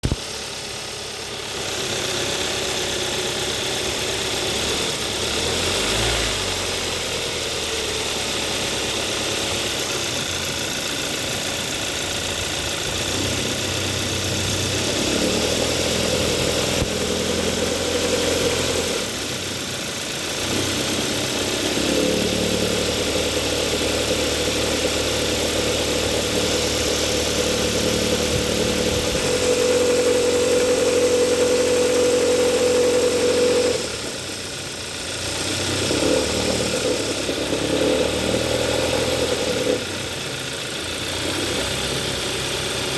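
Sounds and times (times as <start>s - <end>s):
car engine running with rattle: 0.0s - 42.9s.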